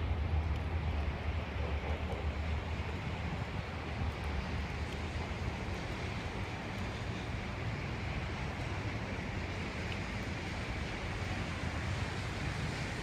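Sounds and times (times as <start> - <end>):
low rumble of traffic: 0.0 - 13.0
rain hiss: 0.0 - 13.0.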